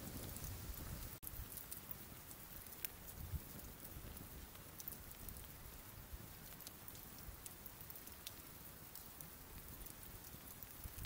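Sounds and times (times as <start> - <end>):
embers crackling and popping: 0.0 - 11.0
soft hiss of embers: 0.0 - 11.0.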